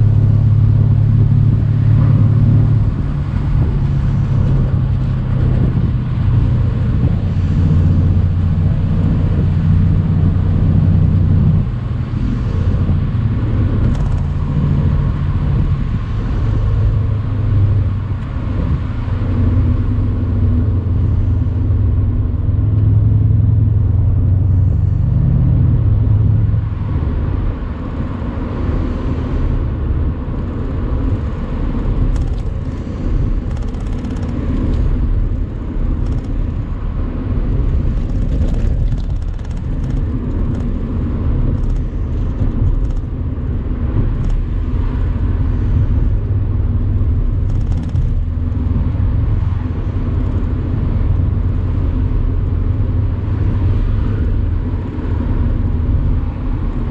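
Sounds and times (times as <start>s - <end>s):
car engine droning: 0.0s - 56.9s.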